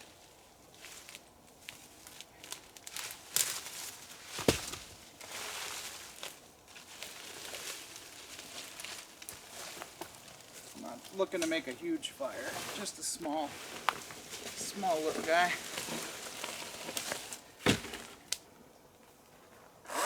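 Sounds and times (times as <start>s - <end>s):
rustling and crinkling paper: 0.8s - 18.3s.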